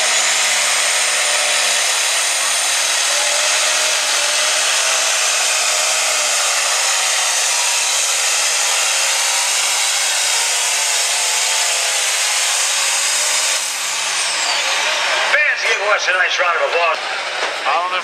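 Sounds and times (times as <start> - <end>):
tractor engine high whine: 0.0 - 18.0.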